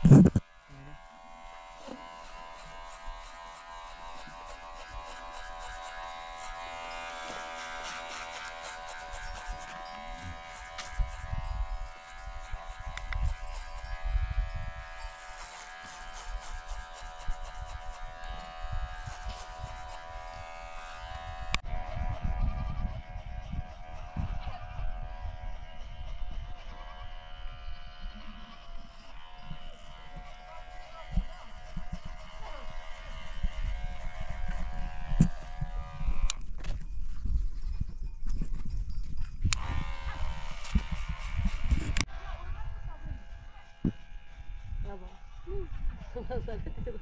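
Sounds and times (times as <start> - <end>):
hair clippers buzzing: 0.0 - 36.8, 39.5 - 47.0.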